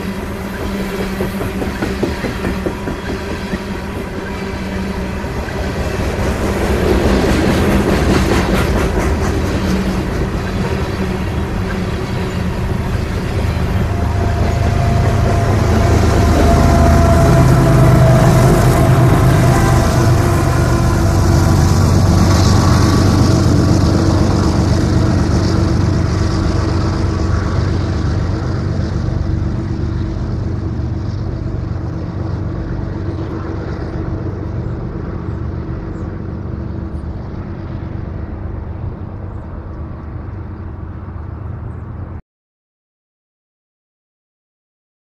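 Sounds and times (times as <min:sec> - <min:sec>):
diesel locomotive engines running: 0:00.0 - 0:42.2.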